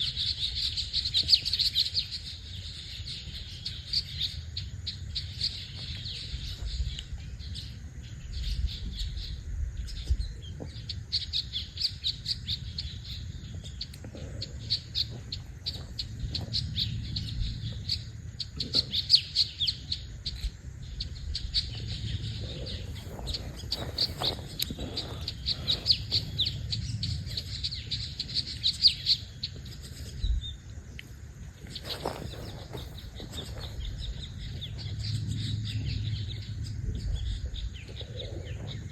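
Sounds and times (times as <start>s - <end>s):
low steady rumble: 0.0s - 38.9s
songbirds chirping and singing: 0.0s - 38.9s.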